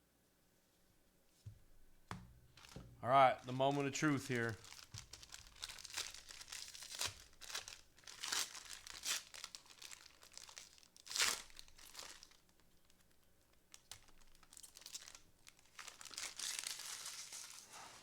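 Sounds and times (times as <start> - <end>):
plastic packaging crinkling and tearing: 2.5 - 17.8.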